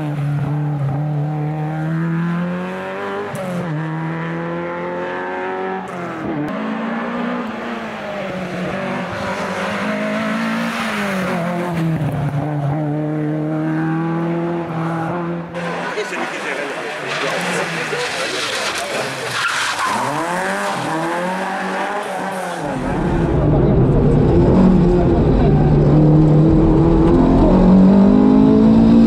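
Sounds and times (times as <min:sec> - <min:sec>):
car engine accelerating through gears: 0:00.0 - 0:19.2, 0:19.8 - 0:29.0.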